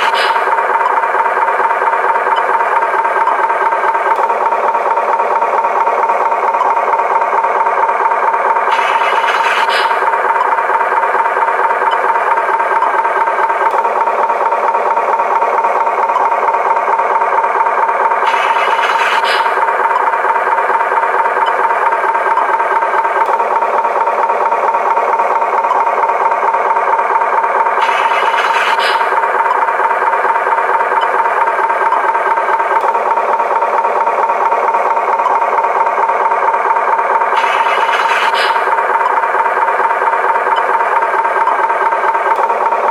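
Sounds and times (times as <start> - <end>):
toy truck rattling whir: 0.0 - 42.9.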